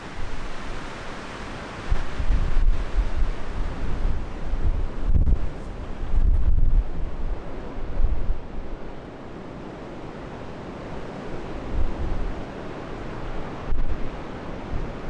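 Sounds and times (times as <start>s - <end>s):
storm wind buffeting microphone: 1.8s - 15.0s.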